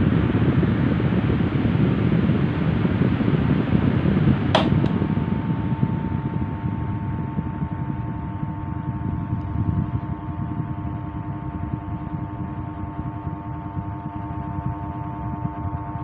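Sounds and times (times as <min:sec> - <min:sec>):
fan air rushing: 0:00.0 - 0:16.0.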